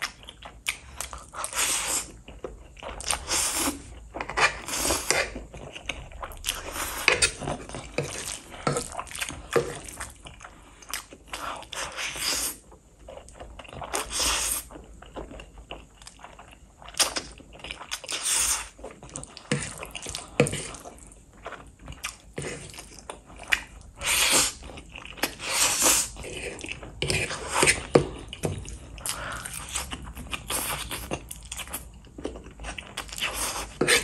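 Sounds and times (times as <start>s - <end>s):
wet chewing: 0.0s - 34.0s.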